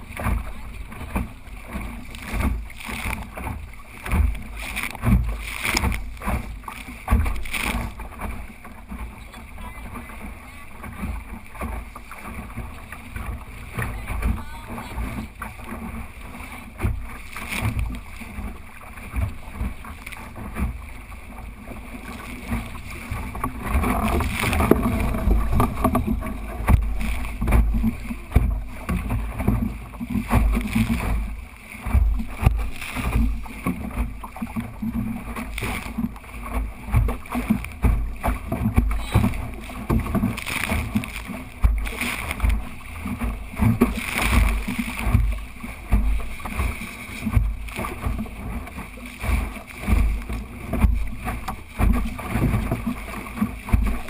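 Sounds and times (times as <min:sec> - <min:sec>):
knocks on boat: 0:00.0 - 0:16.0, 0:21.6 - 0:54.0
water hissing along hull: 0:00.0 - 0:54.0.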